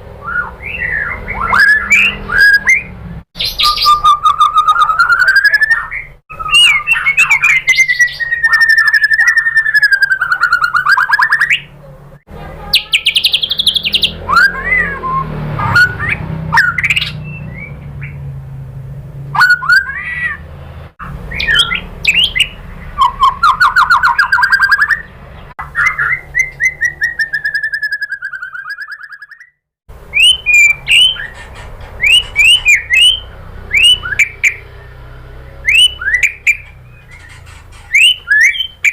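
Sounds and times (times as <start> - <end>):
bird song with trills and whistles: 0.1 - 11.8, 12.6 - 18.3, 19.4 - 20.4, 21.0 - 38.9.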